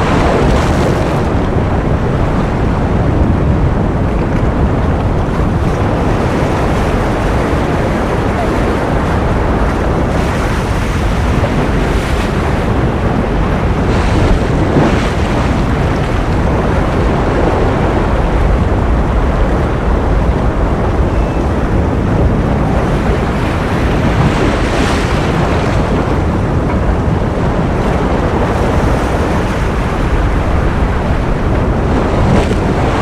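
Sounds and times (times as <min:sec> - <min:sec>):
ocean waves rushing: 0:00.0 - 0:33.0.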